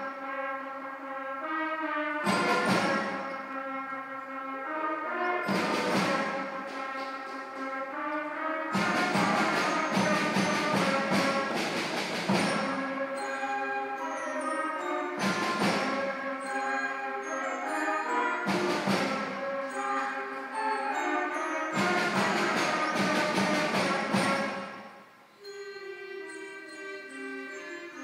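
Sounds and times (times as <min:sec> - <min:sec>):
concert band playing: 0:01.2 - 0:25.2.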